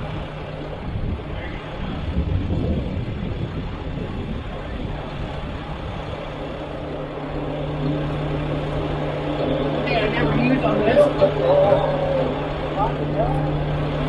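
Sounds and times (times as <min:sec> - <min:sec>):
diesel skid steer running: 0:00.0 - 0:14.0.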